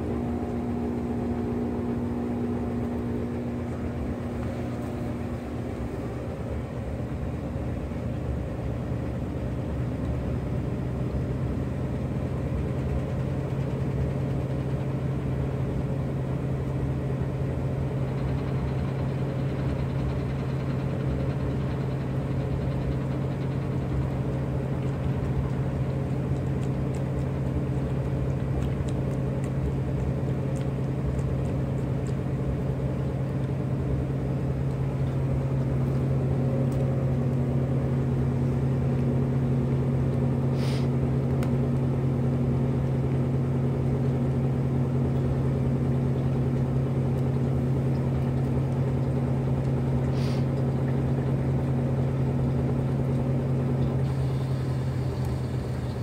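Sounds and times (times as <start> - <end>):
machine hum with low drone: 0.0 - 56.0.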